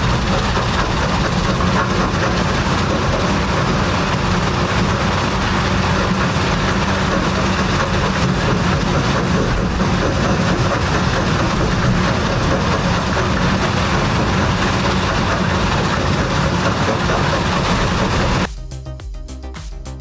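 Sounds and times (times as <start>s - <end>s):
rock-crushing machine grinding: 0.0s - 18.5s
music: 0.0s - 20.0s.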